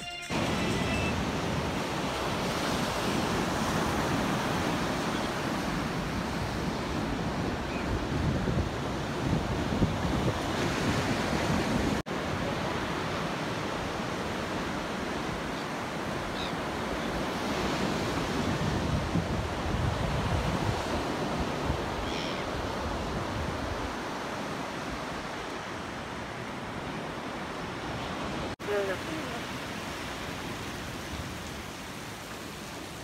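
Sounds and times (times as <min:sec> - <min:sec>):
surf washing up a beach: 0:00.3 - 0:33.0.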